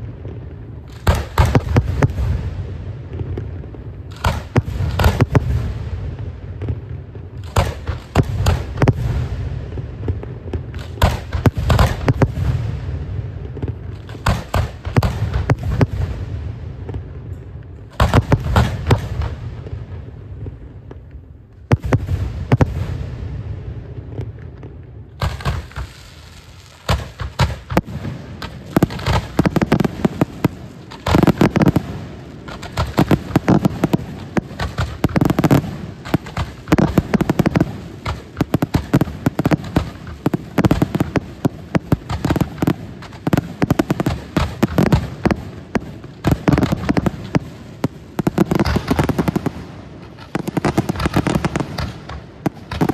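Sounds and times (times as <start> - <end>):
fireworks banging: 0.0 - 52.9.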